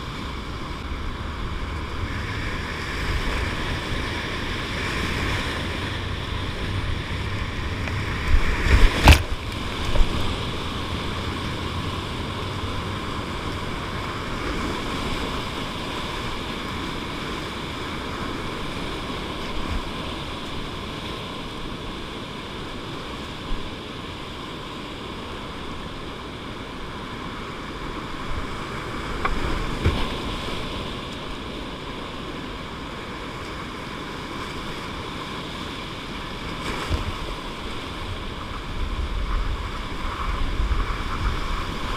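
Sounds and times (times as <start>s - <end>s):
water splashing on boat: 0.0s - 41.9s
whitewater rapids rushing: 0.0s - 41.9s.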